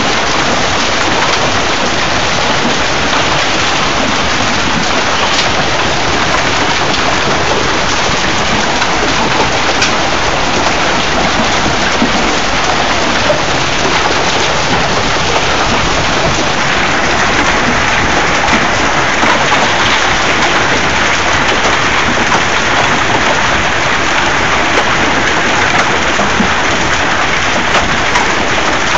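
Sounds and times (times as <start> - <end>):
hailstones falling: 0.0 - 28.9.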